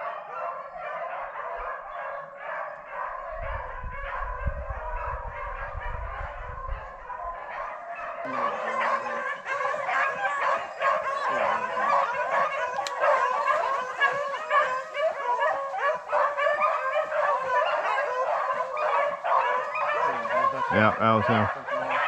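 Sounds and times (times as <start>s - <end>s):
pack of dogs baying: 0.0s - 22.0s.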